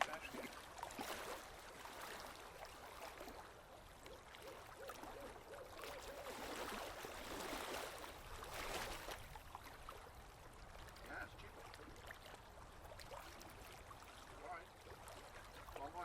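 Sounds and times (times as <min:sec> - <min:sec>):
water lapping against boat hull: 0:00.0 - 0:16.0.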